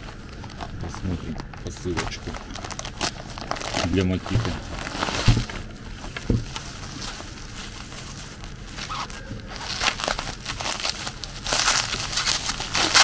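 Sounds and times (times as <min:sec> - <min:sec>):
bubble wrap crackling: 0:00.0 - 0:13.0.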